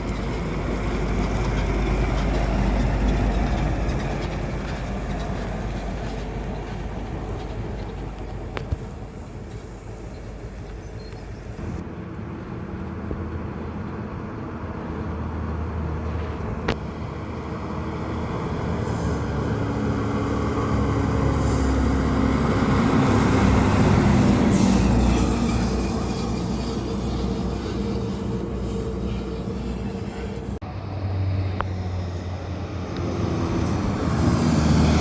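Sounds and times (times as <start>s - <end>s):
truck engine passing: 0.0s - 35.0s.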